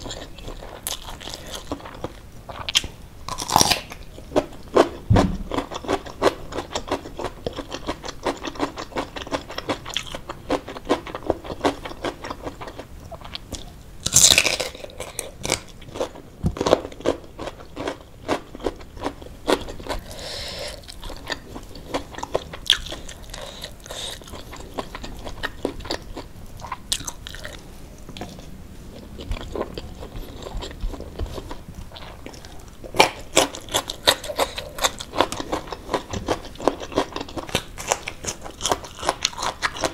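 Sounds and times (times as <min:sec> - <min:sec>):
mouth chewing and crunching: 0:00.0 - 0:39.9.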